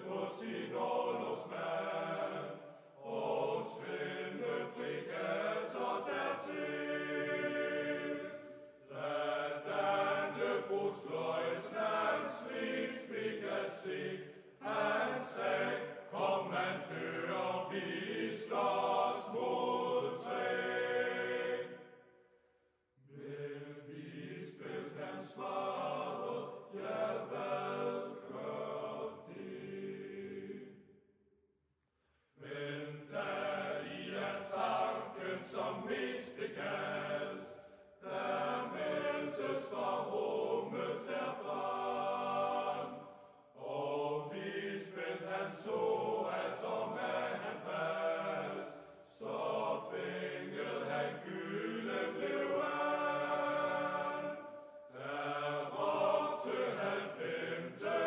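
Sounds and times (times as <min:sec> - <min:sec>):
choir singing: 0:00.0 - 0:22.2, 0:23.0 - 0:30.9, 0:32.4 - 0:58.0.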